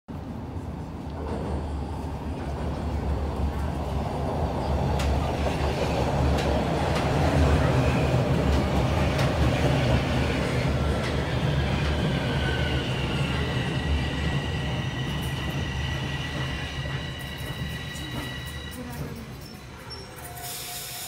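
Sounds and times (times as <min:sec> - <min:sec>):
subway train wheel rumble: 0:00.1 - 0:21.0
train high whine: 0:01.2 - 0:21.0.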